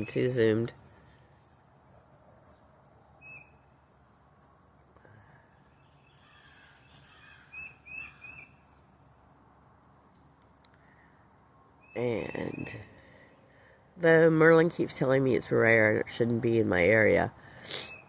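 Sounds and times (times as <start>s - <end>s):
songbirds calling: 0.0s - 18.0s.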